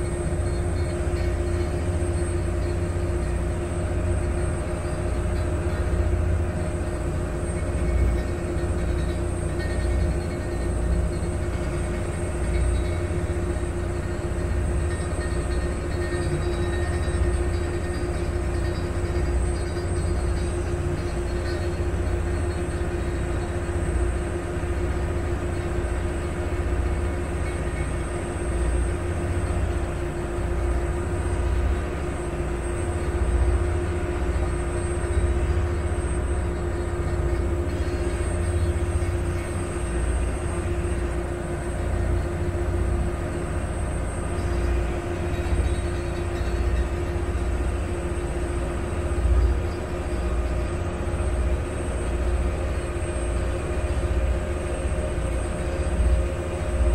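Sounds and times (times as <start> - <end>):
ferry engine drone: 0.0 - 56.9.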